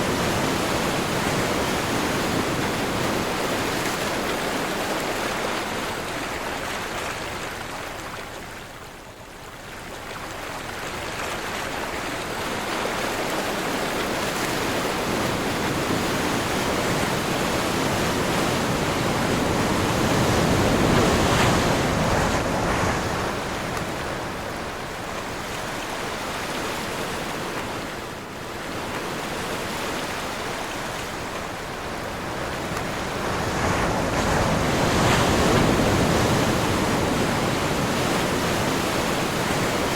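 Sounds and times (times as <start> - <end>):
waves breaking: 0.0 - 8.4, 10.2 - 39.9.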